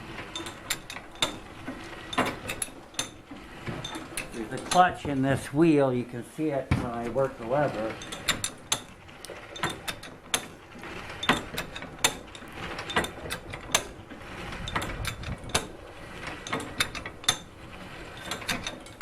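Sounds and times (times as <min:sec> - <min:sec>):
faint mechanical whirr: 0:00.0 - 0:19.0
forge blower clutch clicking: 0:00.0 - 0:19.0.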